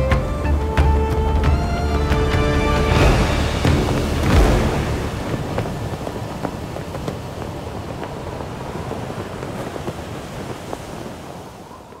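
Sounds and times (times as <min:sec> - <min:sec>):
sea wash: 0:00.0 - 0:12.0
wind: 0:00.0 - 0:12.0.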